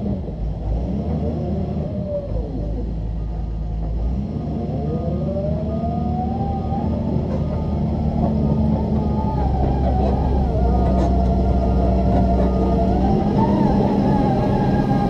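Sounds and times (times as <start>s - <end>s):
excavator engine drone with whine: 0.0s - 15.0s.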